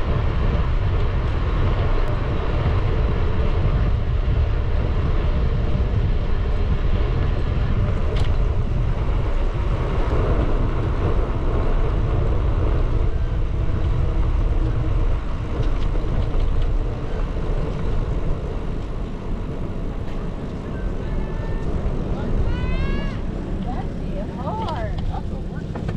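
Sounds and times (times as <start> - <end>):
outdoor noise: 0.0 - 25.9
wind buffeting microphone: 0.0 - 25.9.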